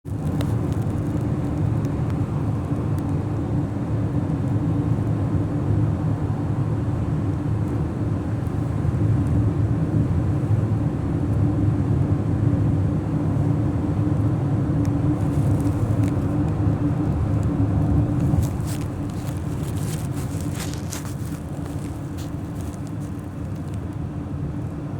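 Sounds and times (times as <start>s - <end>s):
car engine rumbling: 0.0s - 24.9s.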